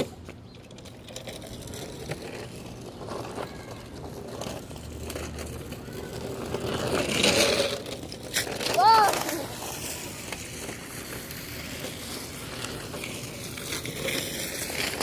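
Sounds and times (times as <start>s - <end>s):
wheels rolling over ground: 0.0s - 15.0s.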